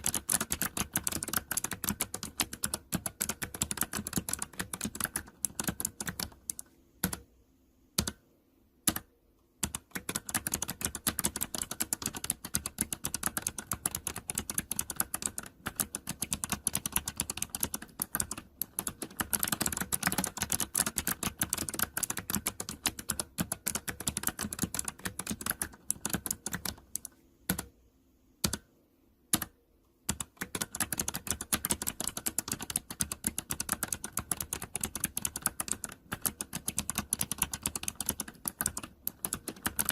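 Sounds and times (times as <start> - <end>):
typing on mechanical keyboard: 0.0 - 7.3, 8.0 - 8.2, 8.8 - 27.7, 28.4 - 28.7, 29.3 - 39.9.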